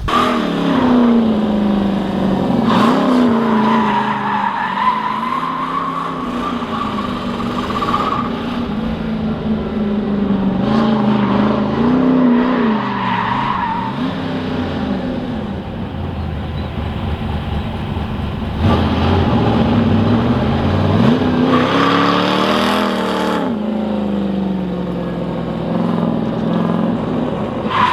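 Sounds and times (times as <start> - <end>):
truck engine revving: 0.0 - 27.9.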